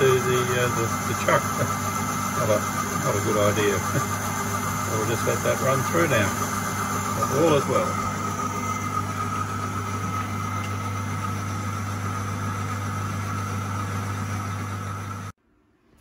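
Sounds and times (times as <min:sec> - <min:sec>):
high whine of boring tool: 0:00.0 - 0:15.4
lathe humming: 0:00.0 - 0:15.4.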